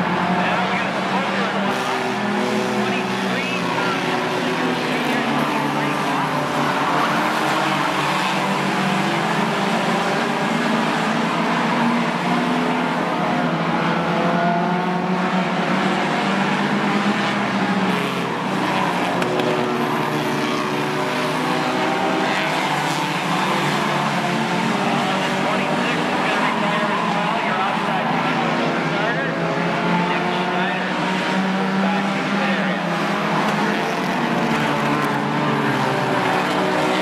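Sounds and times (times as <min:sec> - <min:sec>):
stock car engines racing: 0:00.0 - 0:37.0.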